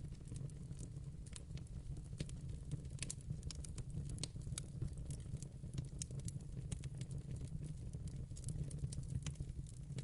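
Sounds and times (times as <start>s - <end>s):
logs crackling and popping: 0.0s - 10.0s
rumble of flames: 0.0s - 10.0s.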